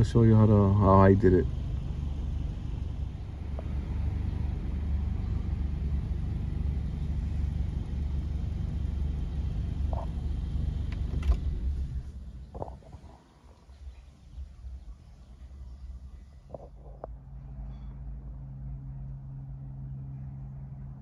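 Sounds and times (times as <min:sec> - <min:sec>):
car idling low rumble: 0:00.0 - 0:21.0.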